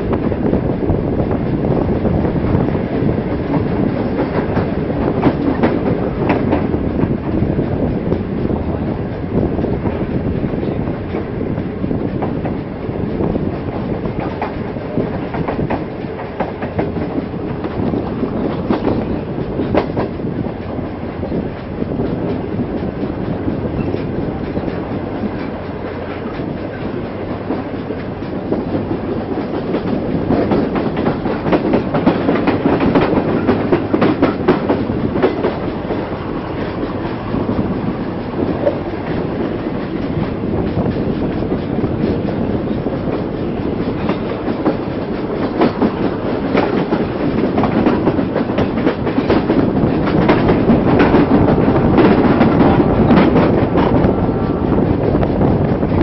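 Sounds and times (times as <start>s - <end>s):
train running rumble: 0.0s - 56.0s
train wheels clattering: 0.0s - 56.0s.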